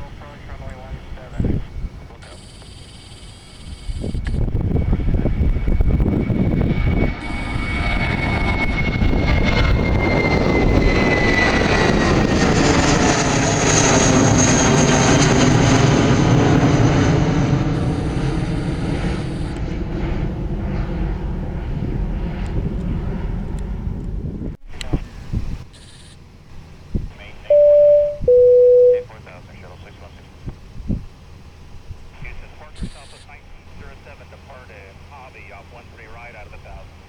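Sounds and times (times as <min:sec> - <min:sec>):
jet engine heavy rumble: 0:00.0 - 0:02.6, 0:03.6 - 0:25.6, 0:27.0 - 0:37.0
jet engine high whine: 0:00.0 - 0:24.6, 0:27.3 - 0:30.4, 0:31.1 - 0:37.0.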